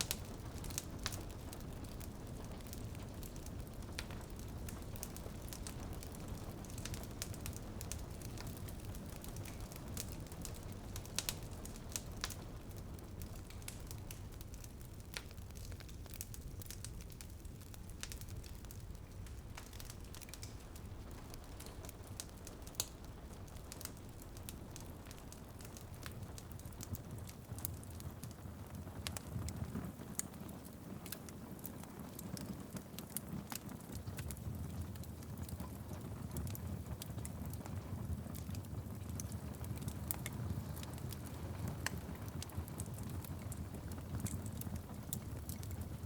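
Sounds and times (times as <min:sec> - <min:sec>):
rain pattering on a window: 0:00.0 - 0:46.0
wood fire crackling and popping: 0:00.0 - 0:46.0.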